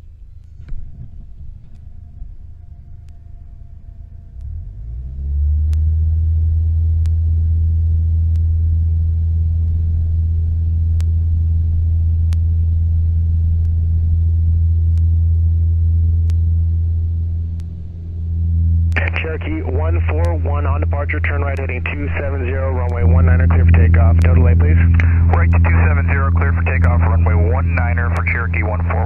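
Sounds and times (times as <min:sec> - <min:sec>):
propeller plane engine drone: 0:00.0 - 0:29.0.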